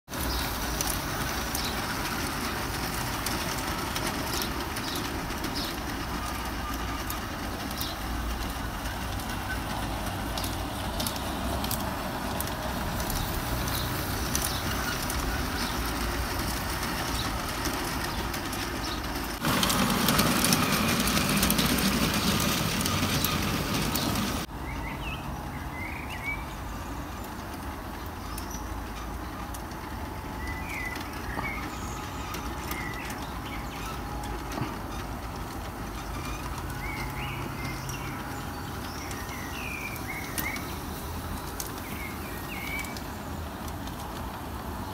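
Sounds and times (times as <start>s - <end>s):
birds chirping: 0.1s - 29.5s, 30.1s - 43.3s
model train rumbling on track: 0.1s - 44.9s.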